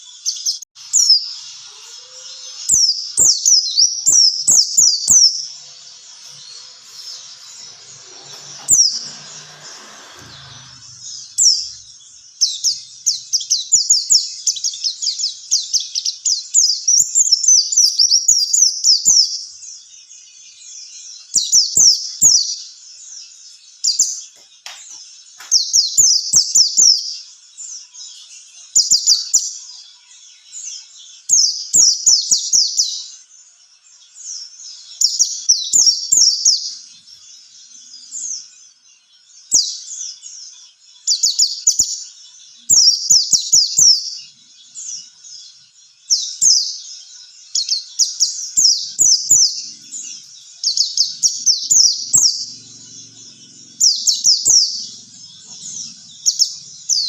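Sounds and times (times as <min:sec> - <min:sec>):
songbird twittering: 0:00.0 - 0:20.0, 0:20.6 - 0:57.0.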